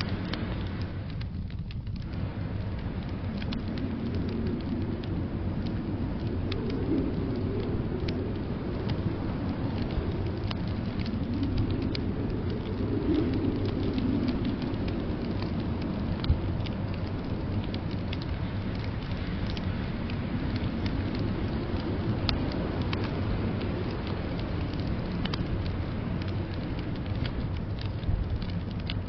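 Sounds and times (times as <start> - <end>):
fire pops: 0.0 - 29.0
low rumble of wind: 0.0 - 29.0
wood fire crackling: 0.0 - 29.0.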